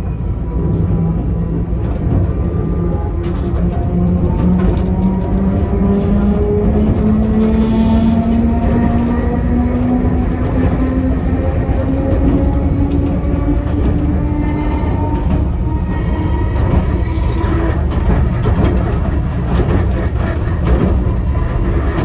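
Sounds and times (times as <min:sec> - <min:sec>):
wheels rumbling on rails: 0:00.0 - 0:22.0.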